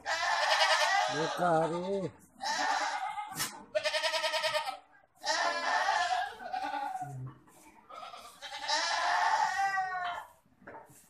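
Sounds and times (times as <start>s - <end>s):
goats bleating: 0.0s - 10.4s.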